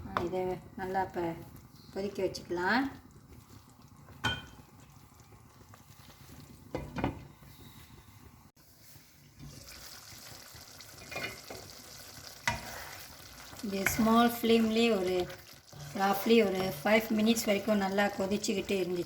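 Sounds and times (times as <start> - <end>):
gravy simmering in a pot: 0.3 - 19.0.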